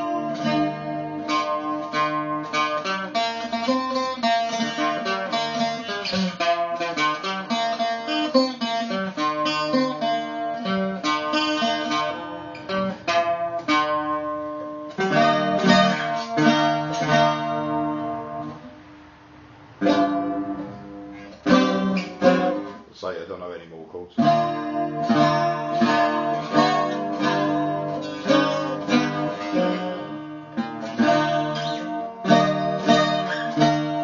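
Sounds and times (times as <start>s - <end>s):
bouzouki picking and strumming: 0.0s - 23.6s, 24.2s - 34.0s.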